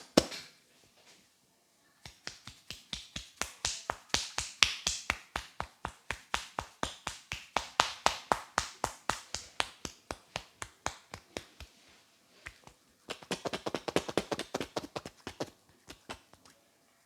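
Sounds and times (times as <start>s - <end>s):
hands clapping on head: 2.0s - 11.8s, 12.4s - 16.5s.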